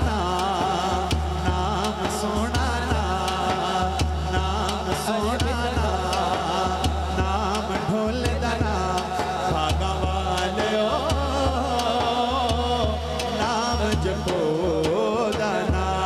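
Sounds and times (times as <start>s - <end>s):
frame drum beating: 0.0s - 16.0s
man singing into a microphone: 0.0s - 16.0s.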